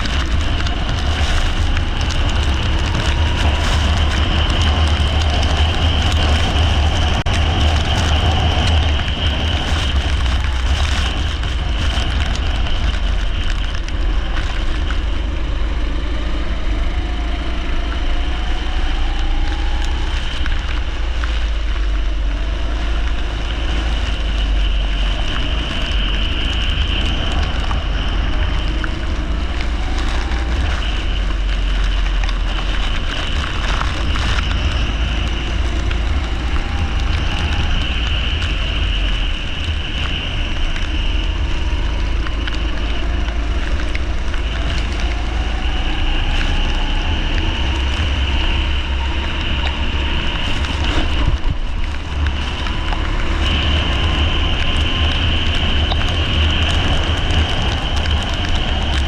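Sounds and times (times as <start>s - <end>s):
tyres on wet track: 0.0s - 59.0s.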